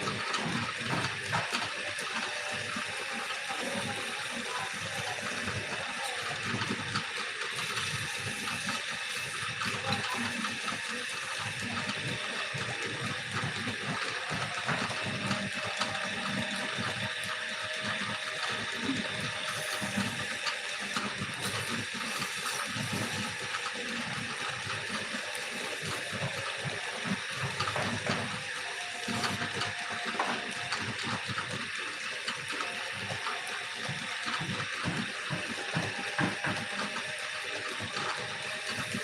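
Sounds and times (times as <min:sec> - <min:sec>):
wood lathe running: 0:00.0 - 0:39.0.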